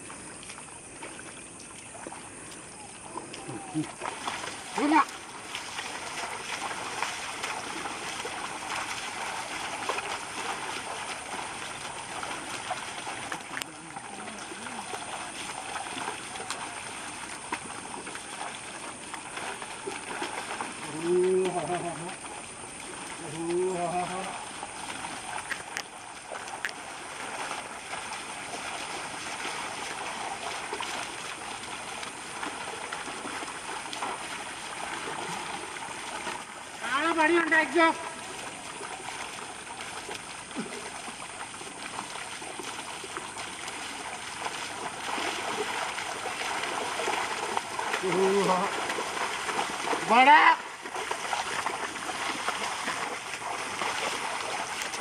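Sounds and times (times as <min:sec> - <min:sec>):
sloshing water and mud: 0:00.0 - 0:55.0
small splashes: 0:00.0 - 0:55.0.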